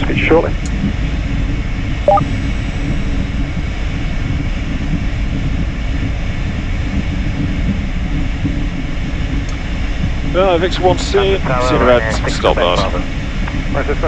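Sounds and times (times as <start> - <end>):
high engine whines: 0.0 - 14.0
jet engines idling rumble: 0.0 - 14.0.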